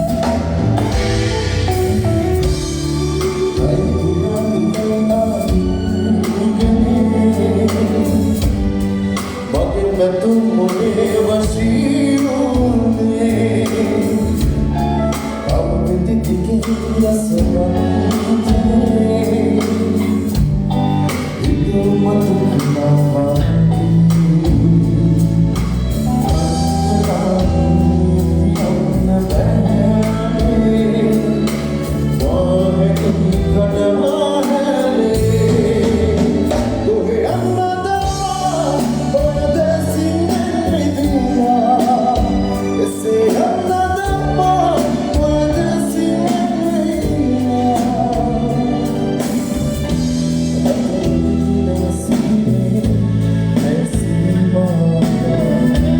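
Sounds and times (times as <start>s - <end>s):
band playing a song with singing: 0.0s - 55.9s.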